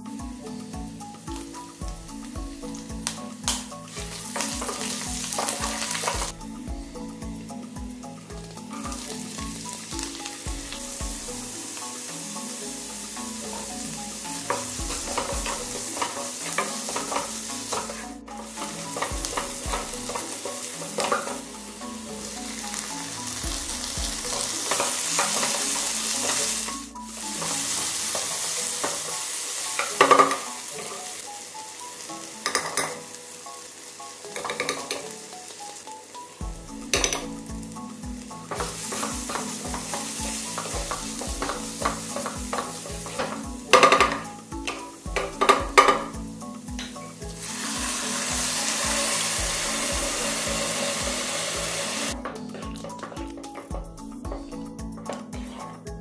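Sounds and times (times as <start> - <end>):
food sizzling in hot oil: 0.0 - 52.9.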